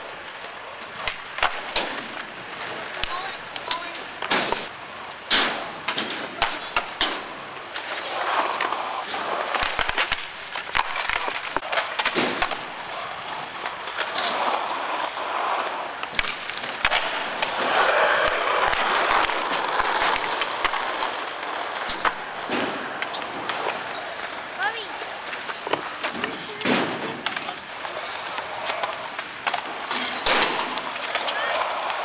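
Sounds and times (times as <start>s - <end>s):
skateboard clacking: 0.0s - 32.0s
skateboard wheels rolling on concrete: 0.0s - 32.0s.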